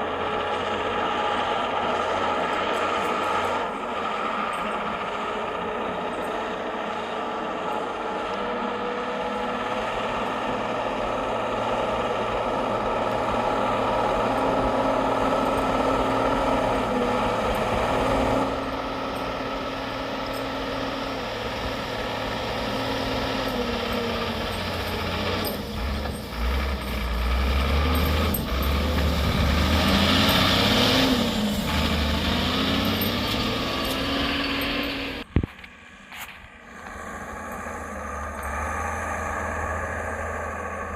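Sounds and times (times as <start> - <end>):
off-road vehicle engine revving: 0.0 - 40.9.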